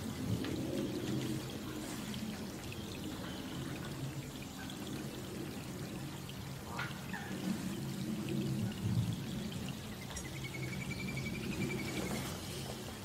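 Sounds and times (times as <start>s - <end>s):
rain falling on a pond: 0.0s - 13.0s.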